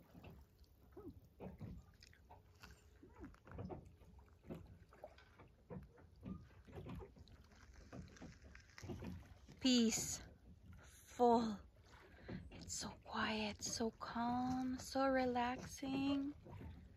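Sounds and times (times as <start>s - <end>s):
small waves lapping: 0.0s - 16.9s.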